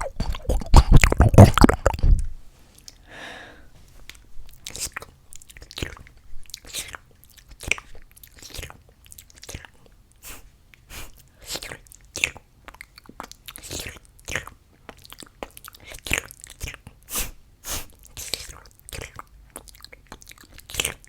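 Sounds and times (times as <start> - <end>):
crunchy mouth clicks: 0.0 - 3.0, 4.1 - 21.0
mouth chomping noises: 0.0 - 3.0, 4.1 - 21.0.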